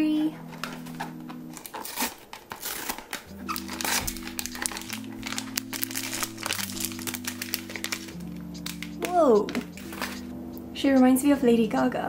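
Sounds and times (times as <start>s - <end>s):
background music with held chords: 0.0s - 12.0s
foil bag crinkling: 0.4s - 10.2s.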